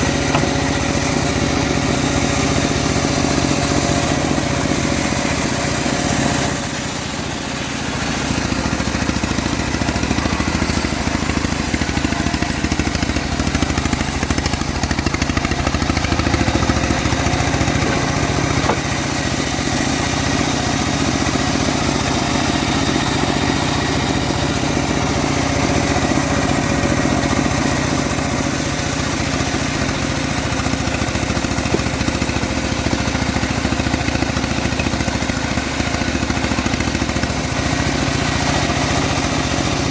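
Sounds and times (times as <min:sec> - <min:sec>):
bandsaw mill engine drone: 0:00.0 - 0:39.9.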